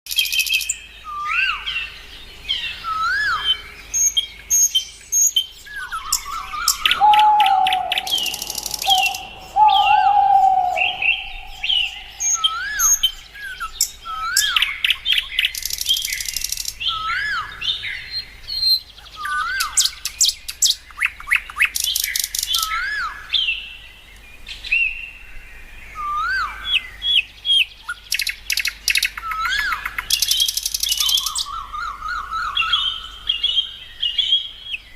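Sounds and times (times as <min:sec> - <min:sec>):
birds whistling: 0:00.1 - 0:23.7, 0:25.9 - 0:34.6
birds chattering trills: 0:00.1 - 0:24.0, 0:26.7 - 0:34.9.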